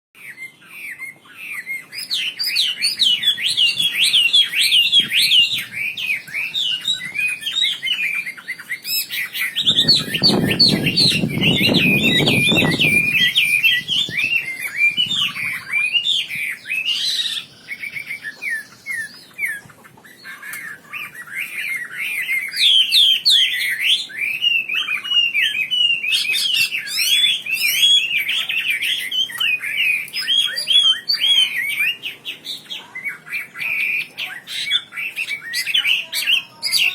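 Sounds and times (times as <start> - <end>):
songbird chirping: 0.2 - 36.9.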